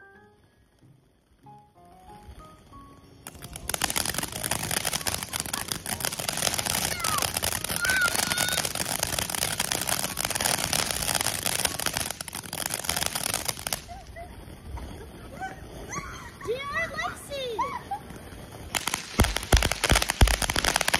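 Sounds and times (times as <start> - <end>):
firework spraying sparks: 0.0 - 20.9.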